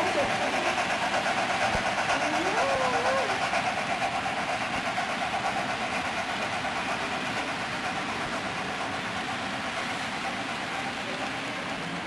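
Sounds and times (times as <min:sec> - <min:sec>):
model trains whirring on track: 0:00.0 - 0:12.0.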